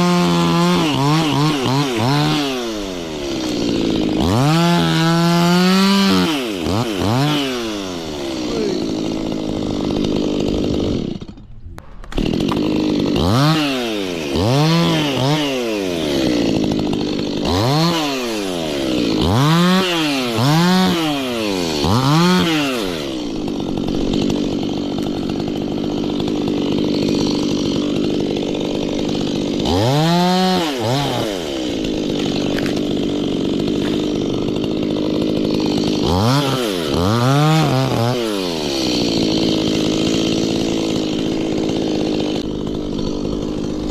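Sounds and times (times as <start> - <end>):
chainsaw idling and revving: 0.0 - 43.9.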